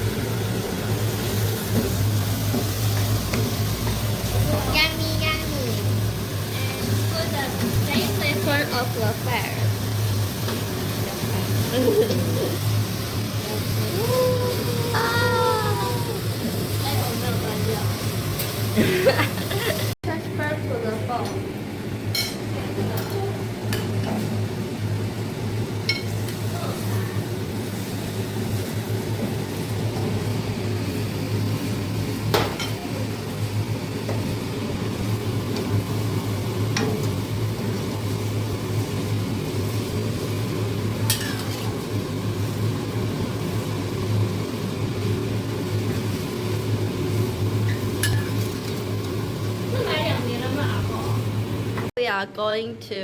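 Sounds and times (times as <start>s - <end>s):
pot simmering: 0.0s - 20.0s, 21.5s - 51.9s.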